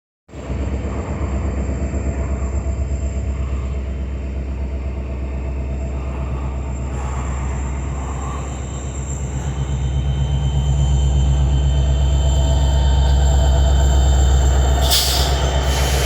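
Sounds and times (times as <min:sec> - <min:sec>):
locomotive engine humming heavily: 0:00.3 - 0:16.0.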